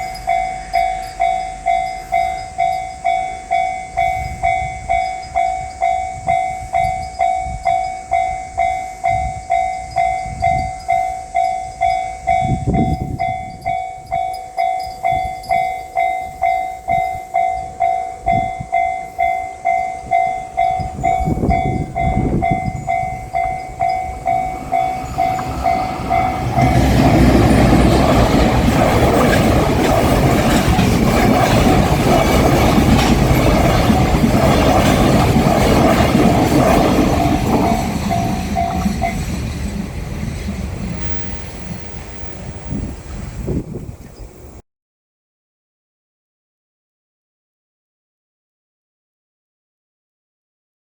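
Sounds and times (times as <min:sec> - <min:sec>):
level-crossing warning bell ringing: 0:00.0 - 0:42.8
freight train rumbling on rails: 0:00.0 - 0:44.6.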